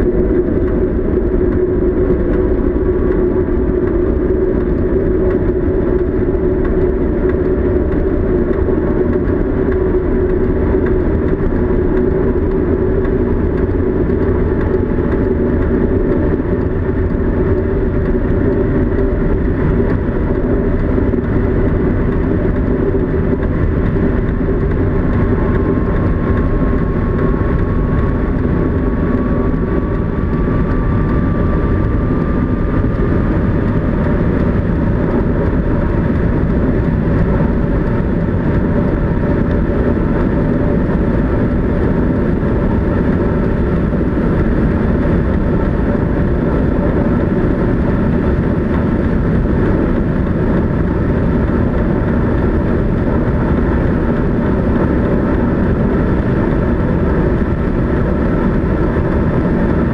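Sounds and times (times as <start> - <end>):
loud rush and rumble: 0.0 - 59.9.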